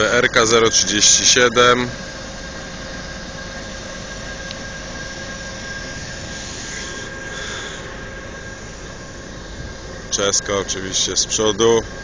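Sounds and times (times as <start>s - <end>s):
diesel locomotive idling: 0.0s - 12.0s
faint constant whine: 0.0s - 12.0s.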